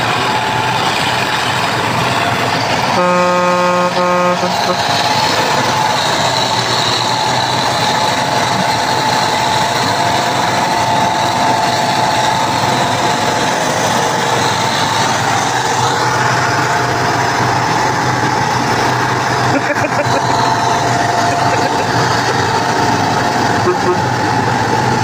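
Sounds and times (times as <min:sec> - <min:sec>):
constant whine: 0:00.0 - 0:25.0
tractor engine running: 0:00.0 - 0:25.0.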